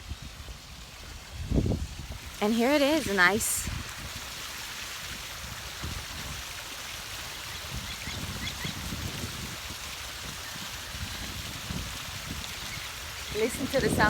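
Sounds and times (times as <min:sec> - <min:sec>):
water running: 0:02.1 - 0:14.0.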